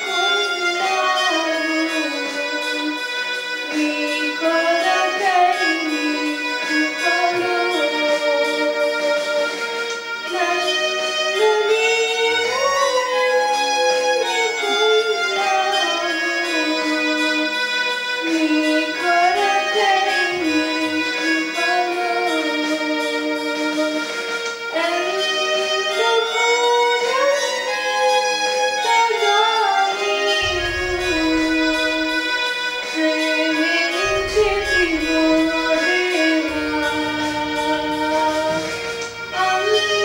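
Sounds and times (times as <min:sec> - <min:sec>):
sustained accompaniment: 0:00.0 - 0:40.0
violin melody: 0:00.0 - 0:40.0.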